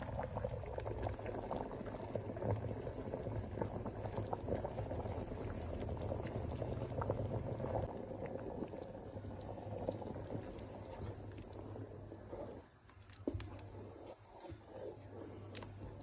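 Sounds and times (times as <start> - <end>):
low steady hum: 0.0 - 16.0
soup bubbling at the boil: 0.0 - 16.0.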